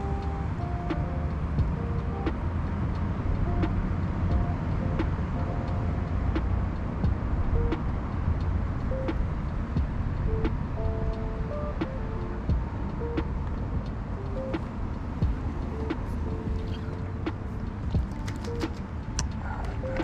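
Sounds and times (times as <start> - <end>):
low rumble: 0.0 - 20.0
slow beat music: 0.0 - 20.0.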